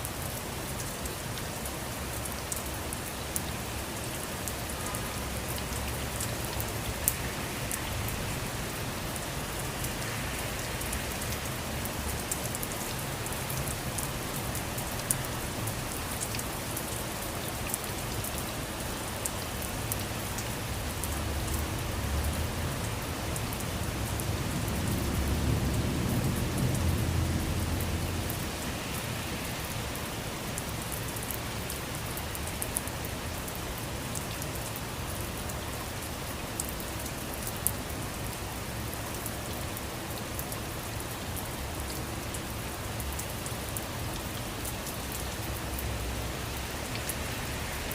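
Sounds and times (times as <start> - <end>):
raindrops ticking on surface: 0.0 - 47.9
steady rainfall: 0.0 - 47.9.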